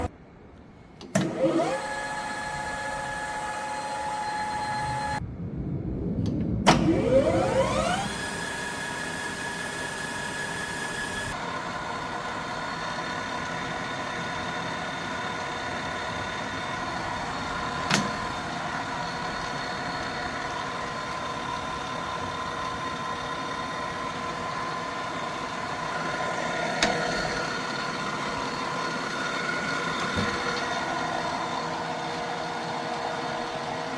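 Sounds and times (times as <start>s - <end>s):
lathe spindle gear whine: 1.1s - 5.2s, 6.8s - 33.9s.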